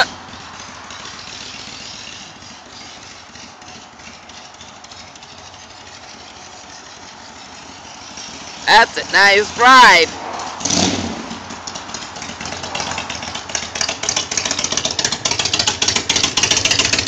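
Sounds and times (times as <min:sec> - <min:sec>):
distant motorcycle engine: 0:00.0 - 0:17.0.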